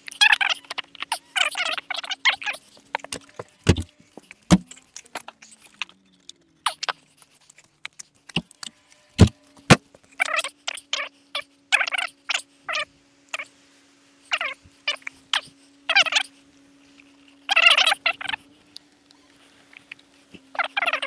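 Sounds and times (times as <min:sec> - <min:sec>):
short chattering bursts: 0:00.0 - 0:08.3, 0:10.1 - 0:13.5, 0:14.3 - 0:18.5, 0:19.9 - 0:21.0.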